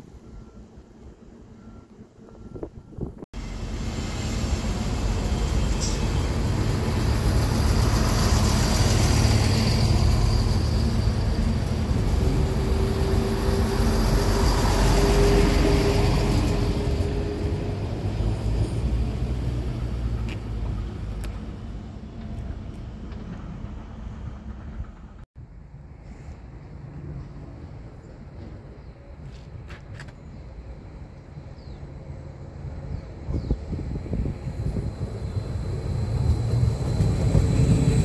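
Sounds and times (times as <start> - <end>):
train passing: 3.4 - 38.0.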